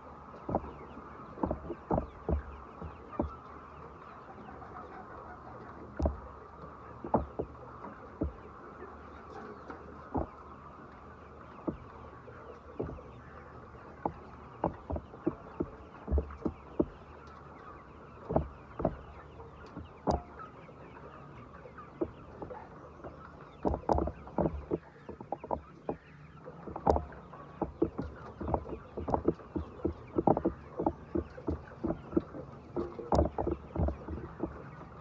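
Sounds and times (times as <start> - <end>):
chickens: 0.0 - 35.0.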